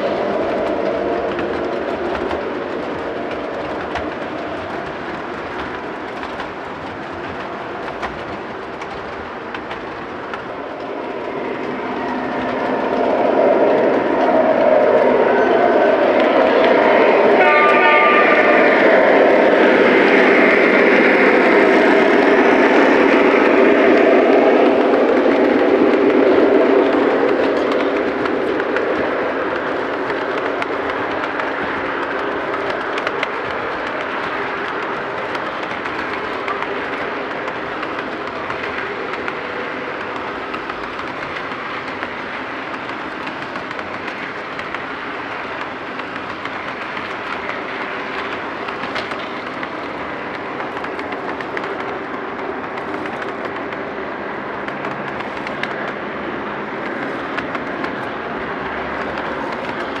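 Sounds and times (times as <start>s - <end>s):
model train wheels rolling on rails: 0.0s - 60.0s.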